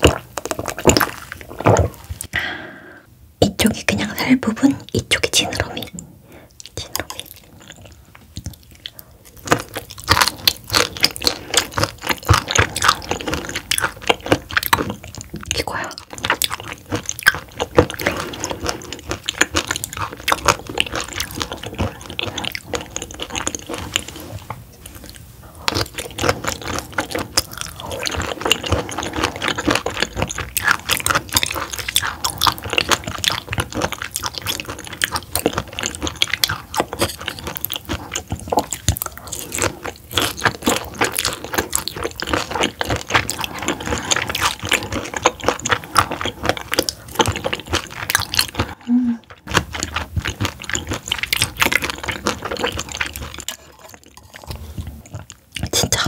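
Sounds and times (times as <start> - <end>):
wet chewing mouth clicks: 6.6 - 56.0.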